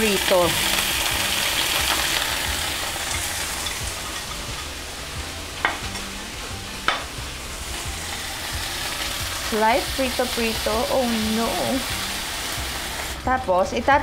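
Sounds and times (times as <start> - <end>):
fish sizzling in hot oil: 0.0 - 13.8.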